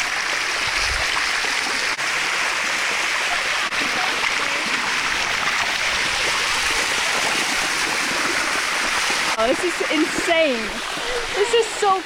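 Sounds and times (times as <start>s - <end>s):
waterfall rushing over rock: 0.0s - 12.0s.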